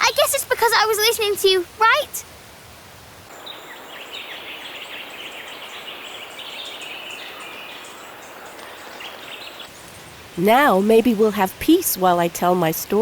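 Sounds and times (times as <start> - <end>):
small birds chirping: 0.0 - 2.2, 3.3 - 13.0
faint steady hiss: 0.0 - 13.0.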